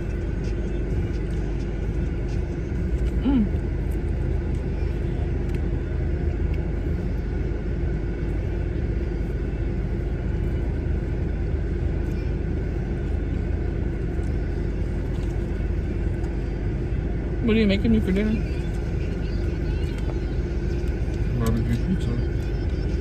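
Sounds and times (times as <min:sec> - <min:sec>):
car engine rumble from inside: 0:00.0 - 0:23.0.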